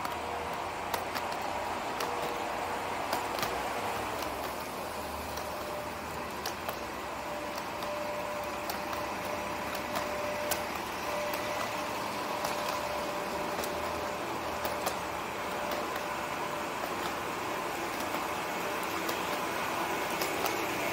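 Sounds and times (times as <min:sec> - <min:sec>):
light clicks: 0:00.0 - 0:17.3
mechanical hum: 0:00.0 - 0:20.9.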